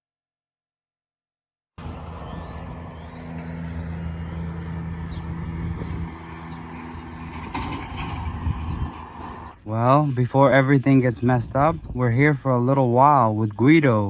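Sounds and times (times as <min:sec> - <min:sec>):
low engine hum: 0:01.8 - 0:14.0.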